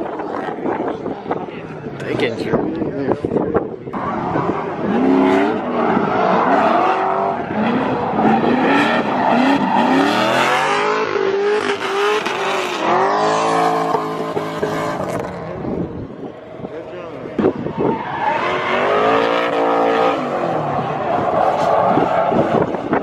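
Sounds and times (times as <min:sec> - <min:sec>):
car engine revving: 0:04.0 - 0:23.0.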